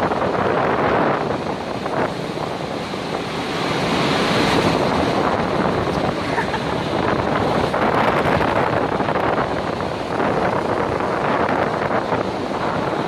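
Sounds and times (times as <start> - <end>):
rough sea breaking: 0.0 - 13.0
wind gusting across microphone: 0.0 - 13.0.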